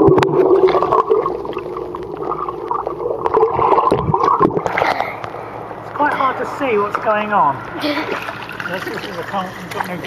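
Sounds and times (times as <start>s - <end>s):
underwater water swirling and bubbling: 0.0s - 5.9s, 7.6s - 10.0s.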